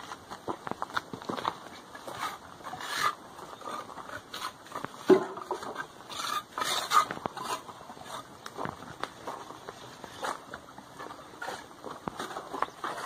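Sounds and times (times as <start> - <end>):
footsteps crunching on gritty dirt: 0.0 - 13.0.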